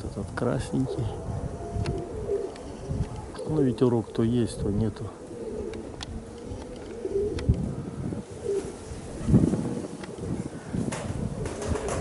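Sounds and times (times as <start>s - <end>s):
pigeons cooing: 0.0s - 12.0s
wind buffeting microphone: 0.0s - 12.0s.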